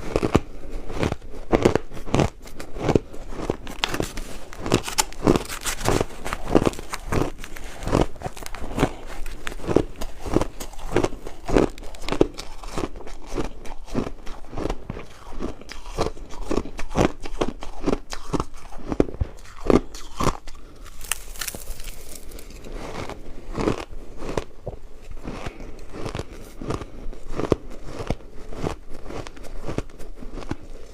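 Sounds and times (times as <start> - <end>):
ice being chewed: 0.0 - 30.9.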